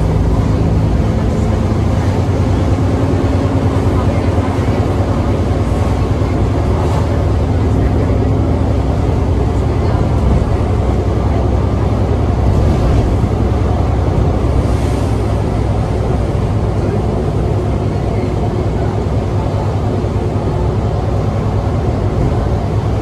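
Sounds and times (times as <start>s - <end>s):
bus diesel engine drone: 0.0s - 23.0s
road noise: 0.0s - 23.0s.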